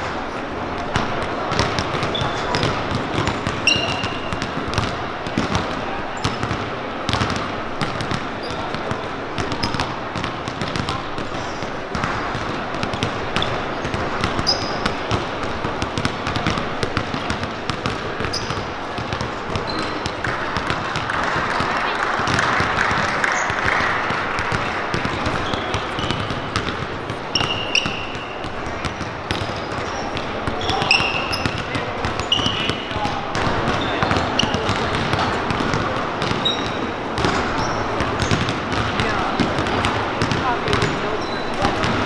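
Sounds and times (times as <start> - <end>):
sneakers squeaking: 0.0 - 42.0
basketballs bouncing on hardwood: 0.8 - 42.0.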